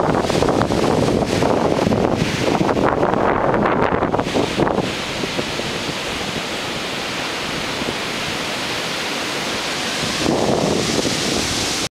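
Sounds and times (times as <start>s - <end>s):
ocean surf breaking on beach: 0.0s - 11.9s.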